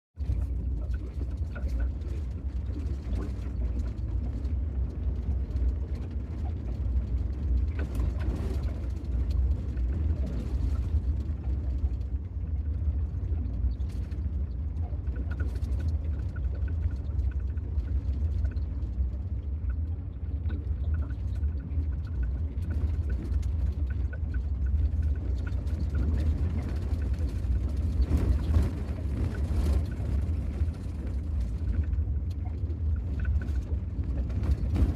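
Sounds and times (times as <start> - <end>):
van road rumble: 0.2 - 34.9.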